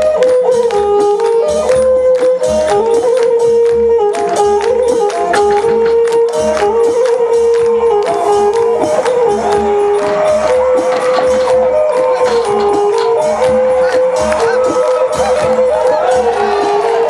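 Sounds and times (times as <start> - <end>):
wind instrument melody: 0.0 - 17.0.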